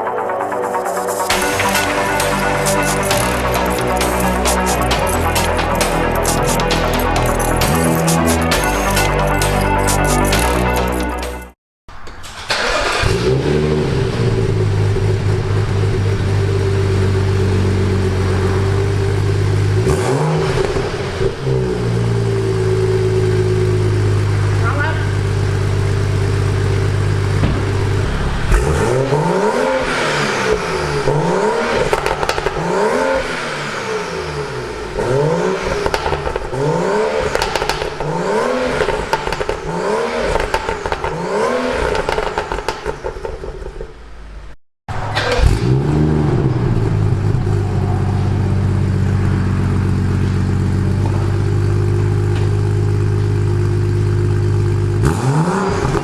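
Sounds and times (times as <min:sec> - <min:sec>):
car engine idling and revving: 0:00.0 - 0:56.0.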